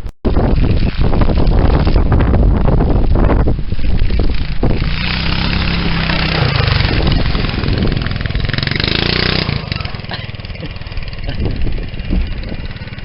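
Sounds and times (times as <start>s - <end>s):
go-kart engine running: 0.6s - 13.0s.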